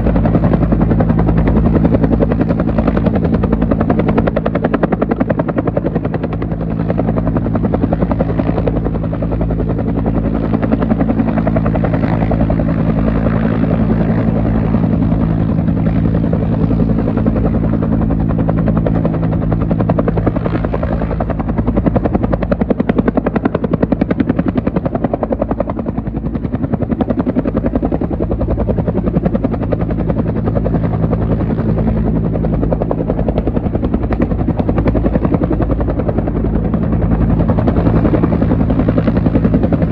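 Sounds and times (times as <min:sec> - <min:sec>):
helicopter rotor chop: 0:00.0 - 0:39.9
low engine and rotor hum: 0:00.0 - 0:39.9.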